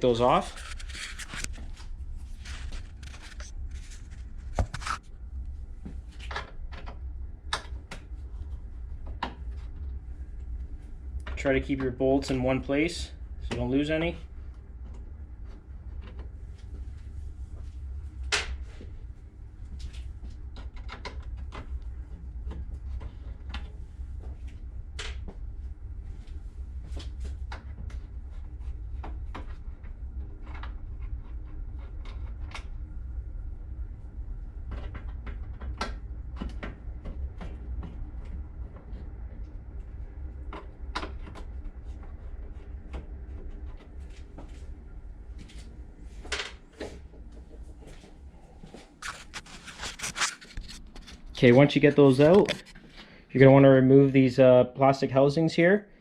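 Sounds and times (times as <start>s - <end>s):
low hum: 0.0s - 55.2s.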